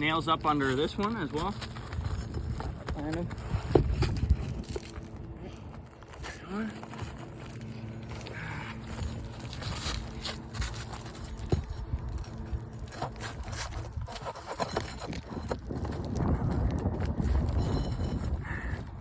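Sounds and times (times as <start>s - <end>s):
roof shingles scraping: 0.0s - 18.8s.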